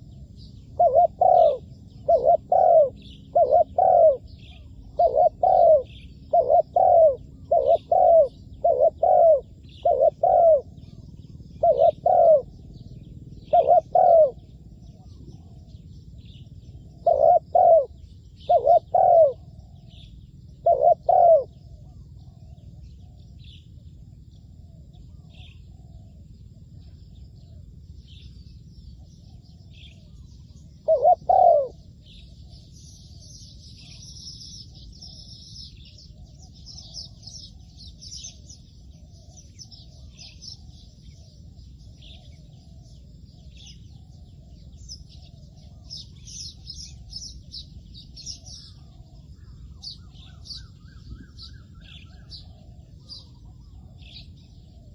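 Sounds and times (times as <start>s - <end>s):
dove cooing: 0.0s - 23.5s, 29.0s - 54.9s
small birds chirping: 0.0s - 54.9s.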